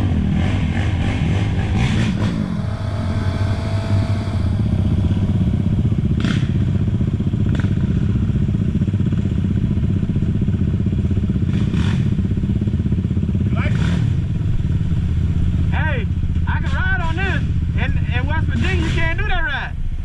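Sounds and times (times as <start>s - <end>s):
off-road bike engine running: 0.0s - 20.0s.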